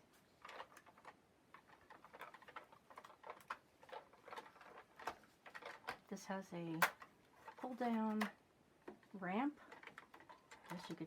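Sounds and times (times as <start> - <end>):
plastic toy truck clicking: 0.4 - 11.0.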